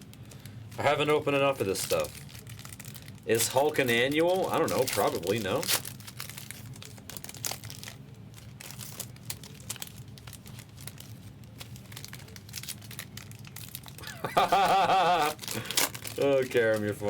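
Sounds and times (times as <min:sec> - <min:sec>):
card pack wrappers crinkling: 0:00.1 - 0:17.0.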